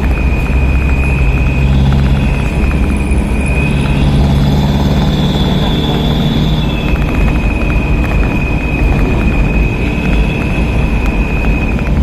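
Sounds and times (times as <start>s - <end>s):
truck engines rumbling: 0.0s - 12.0s.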